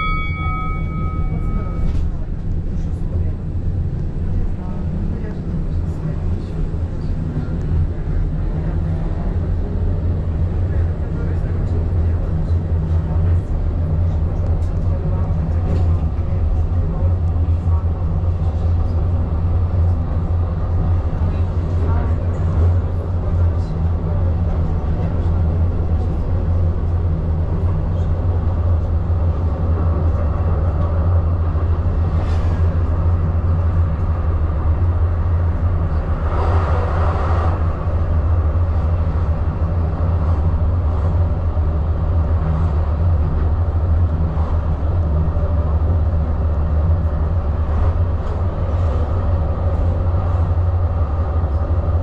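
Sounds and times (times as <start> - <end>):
tram motors and wheels rumbling: 0.0 - 52.0.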